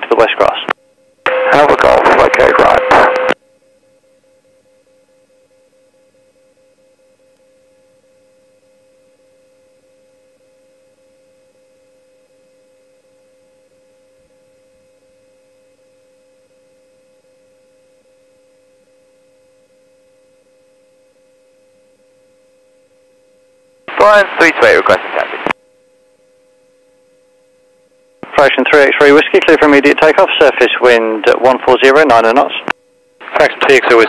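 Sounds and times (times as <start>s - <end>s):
faint electrical hum: 0.0s - 34.0s.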